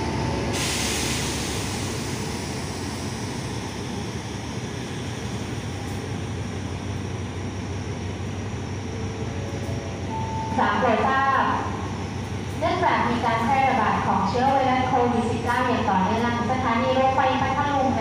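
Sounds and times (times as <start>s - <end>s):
locomotive engine drone: 0.0s - 18.0s.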